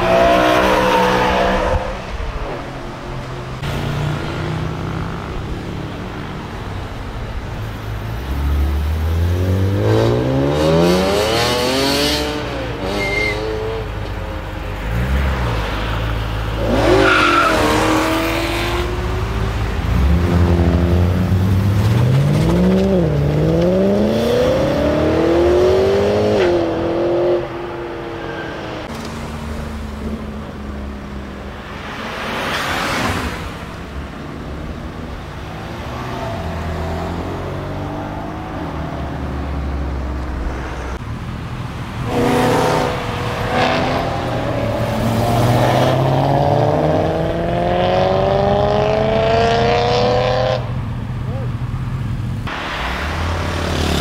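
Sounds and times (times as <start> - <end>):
car engines accelerating hard: 0.0 - 54.0.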